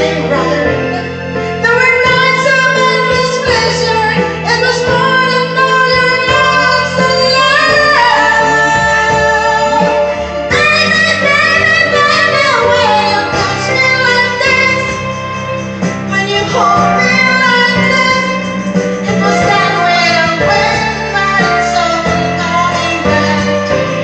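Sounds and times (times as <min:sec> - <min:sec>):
backing music: 0:00.0 - 0:24.0
woman singing into a microphone: 0:00.0 - 0:24.0.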